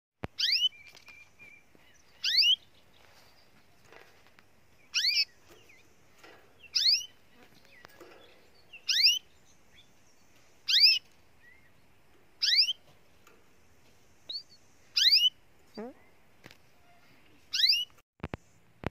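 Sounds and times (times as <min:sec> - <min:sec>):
canary chirping: 0:00.3 - 0:04.0, 0:04.7 - 0:13.4, 0:14.2 - 0:16.2, 0:16.8 - 0:18.0.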